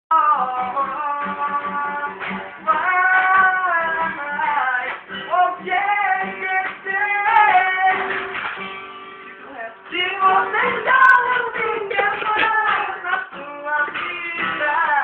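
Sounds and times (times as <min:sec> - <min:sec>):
plucked string instrument: 0:00.1 - 0:15.0.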